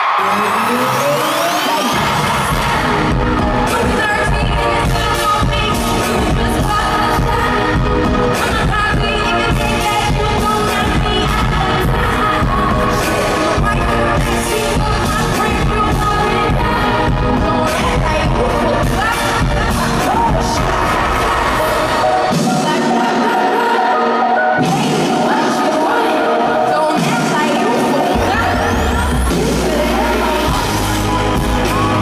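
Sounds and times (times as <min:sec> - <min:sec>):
loud band with heavy beat: 0:00.0 - 0:23.5, 0:27.0 - 0:32.0
woman singing into microphone: 0:01.9 - 0:32.0.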